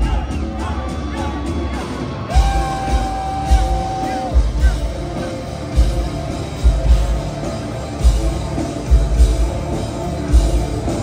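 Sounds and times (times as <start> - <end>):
distorted electric guitars: 0.0 - 11.0
drums: 0.0 - 11.0.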